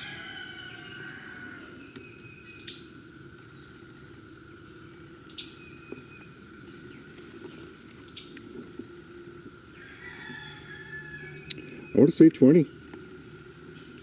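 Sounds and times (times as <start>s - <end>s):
bird calling: 0.0s - 14.0s
faint steady hum: 0.0s - 14.0s.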